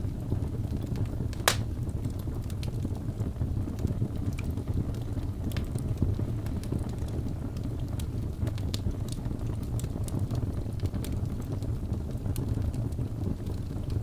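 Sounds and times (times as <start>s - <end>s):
burning logs crackling and popping: 0.0s - 14.0s
roar of fire flames: 0.0s - 14.0s.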